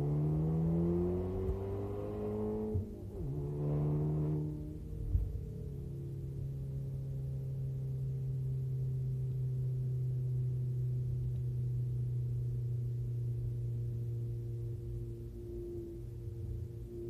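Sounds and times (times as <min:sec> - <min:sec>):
car exhaust drone: 0:00.0 - 0:17.0.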